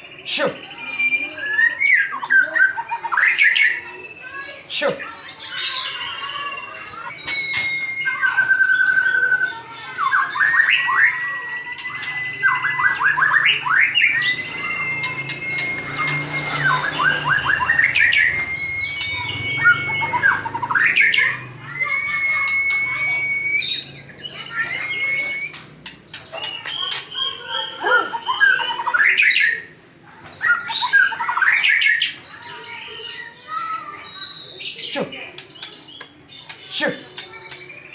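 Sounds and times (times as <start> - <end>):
songbird whistling and trilling: 0.0 - 36.6.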